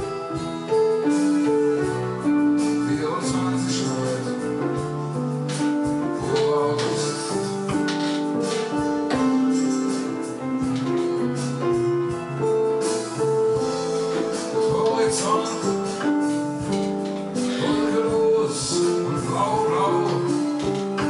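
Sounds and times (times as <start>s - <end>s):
keyboard playing slow song: 0.0s - 21.0s
programmed drum beat: 0.0s - 21.0s.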